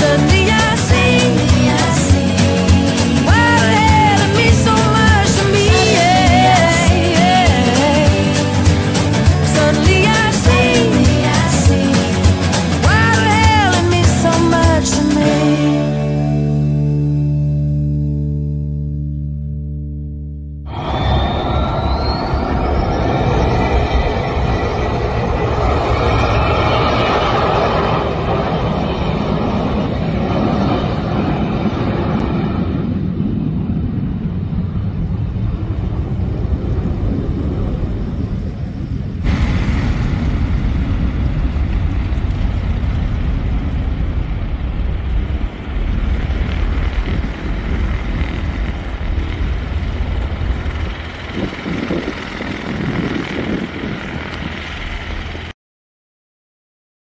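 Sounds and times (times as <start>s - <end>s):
jet engines at takeoff power: 0.0s - 16.7s, 20.7s - 55.6s.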